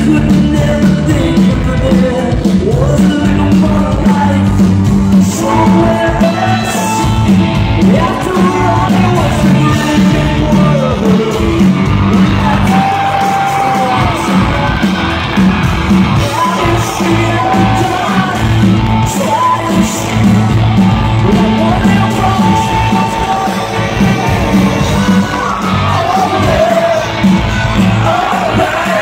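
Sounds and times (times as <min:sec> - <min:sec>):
crowd yelling: 0:00.0 - 0:29.0
live rock band playing: 0:00.0 - 0:29.0
sung vocals: 0:00.0 - 0:29.0.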